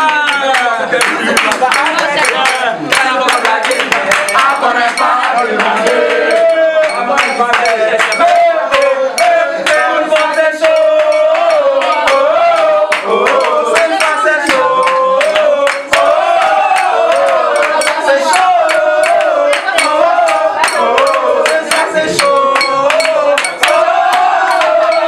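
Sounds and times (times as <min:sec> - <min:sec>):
group singing: 0:00.0 - 0:25.0
hands clapping: 0:00.0 - 0:25.0.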